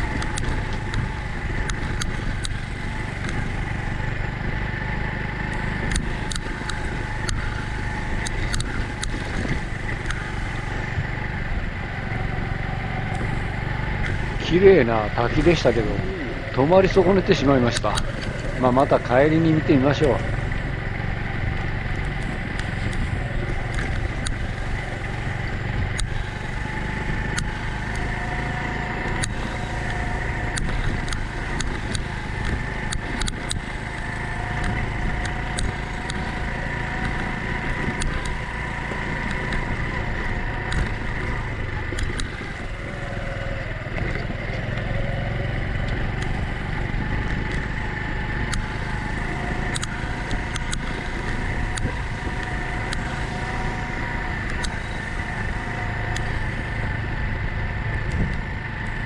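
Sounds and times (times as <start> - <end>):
small motorcycle engine running: 0.0 - 59.0
wind and road noise: 0.0 - 59.0.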